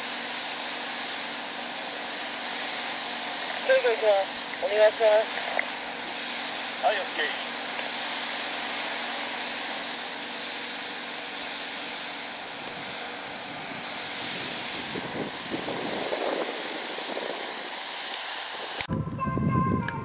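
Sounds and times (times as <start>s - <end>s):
outdoor hiss: 0.0s - 18.9s.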